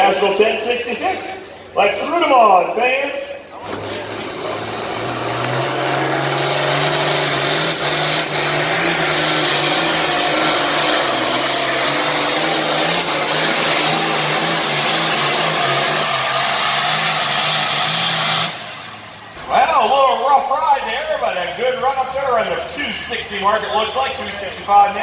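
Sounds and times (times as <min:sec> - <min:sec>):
tractor engine under full load: 0:03.2 - 0:25.0.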